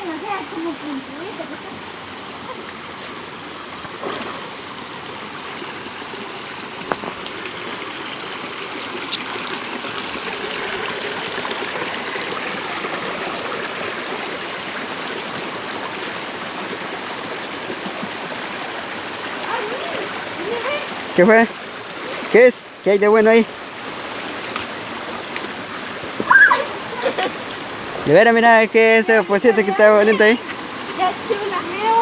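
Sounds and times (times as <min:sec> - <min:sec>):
river water running over rocks: 0:00.0 - 0:32.0.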